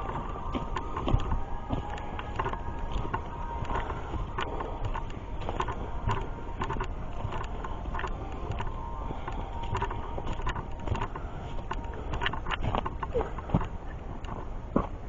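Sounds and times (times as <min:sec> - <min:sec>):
footsteps crunching on trail: 0:00.0 - 0:15.0
low rumble on microphone: 0:00.0 - 0:15.0.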